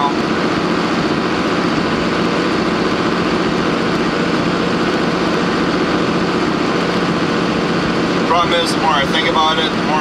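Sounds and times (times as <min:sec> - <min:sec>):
tractor engine idling: 0:00.0 - 0:10.0.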